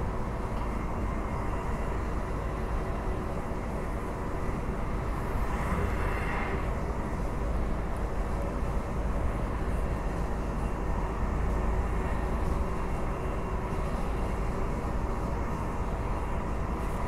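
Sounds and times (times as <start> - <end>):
train rumbling in motion: 0.0 - 17.0.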